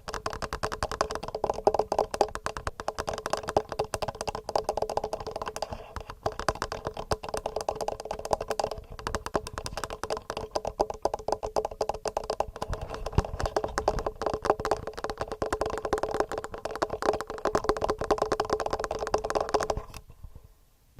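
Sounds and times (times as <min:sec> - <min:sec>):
fingernails tapping on microphone: 0:00.0 - 0:20.0.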